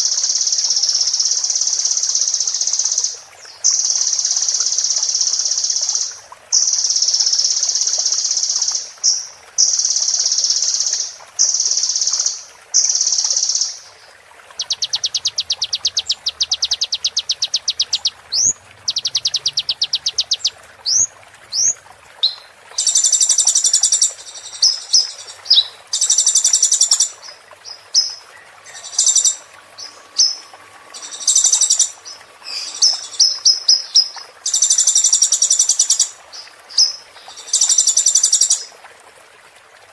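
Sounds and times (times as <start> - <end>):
songbird singing buzzy trills: 0.0 - 38.7.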